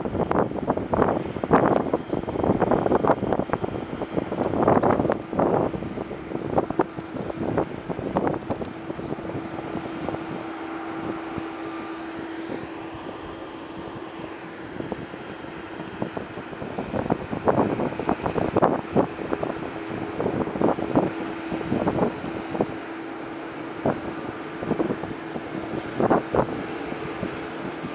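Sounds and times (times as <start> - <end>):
gusty buffeting: 0.0 - 27.9
jet turbine hum: 0.0 - 27.9
faint high whine: 1.8 - 27.9.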